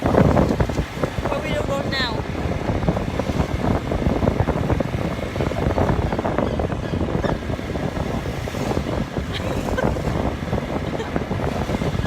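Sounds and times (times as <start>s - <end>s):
motorbike engine: 0.0s - 12.0s
road noise: 0.0s - 12.0s
wind buffeting microphone: 0.0s - 12.0s.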